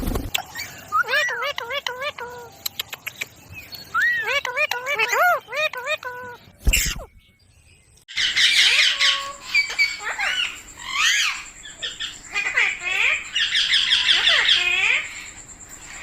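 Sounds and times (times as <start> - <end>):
parakeets squawking and chirping: 0.0 - 7.1, 8.1 - 15.3.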